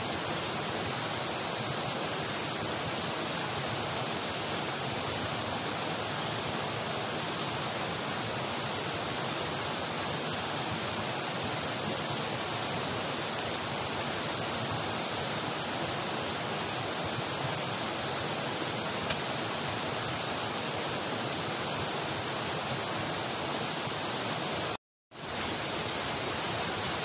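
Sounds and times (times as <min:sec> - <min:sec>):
waterfall roaring: 0:00.4 - 0:27.0.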